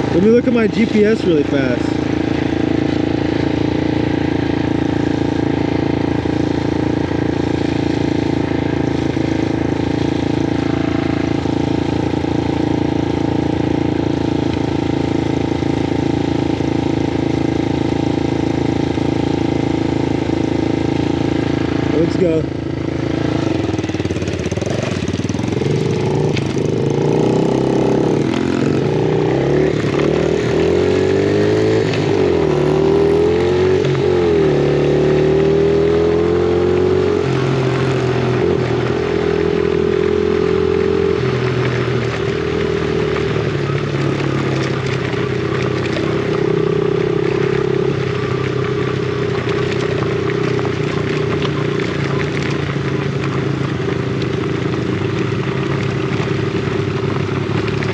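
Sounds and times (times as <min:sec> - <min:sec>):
dirt bike engine: 0:00.0 - 0:57.9.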